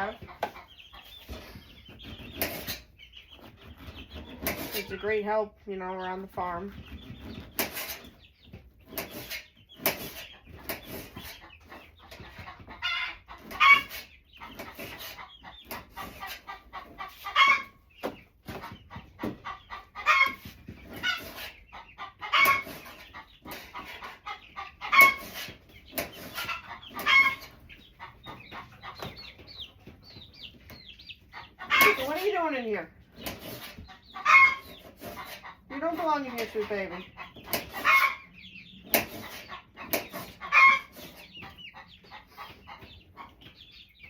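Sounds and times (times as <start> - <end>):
chickens calling: 0.0 - 44.0.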